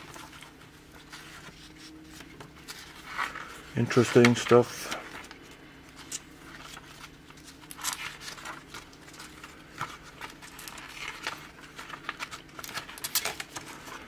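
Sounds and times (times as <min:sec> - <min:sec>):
pages turning: 0:00.0 - 0:14.0.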